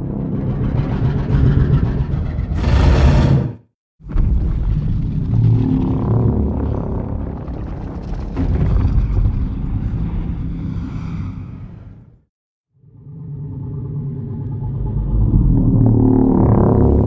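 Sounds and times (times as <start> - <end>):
low rumbling monster roar: 0.0 - 12.2, 13.4 - 17.0.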